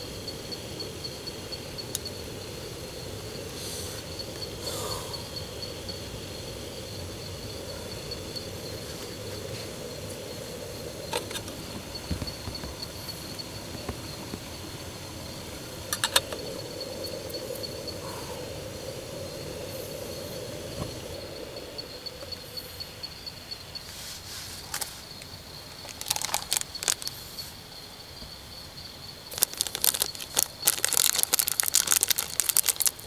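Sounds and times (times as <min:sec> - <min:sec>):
insects trilling: 0:00.0 - 0:33.0
steady low hiss: 0:00.0 - 0:33.0.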